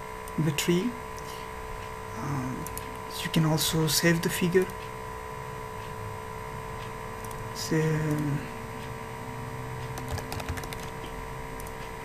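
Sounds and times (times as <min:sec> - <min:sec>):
electrical mains hum and hiss: 0:00.0 - 0:12.0.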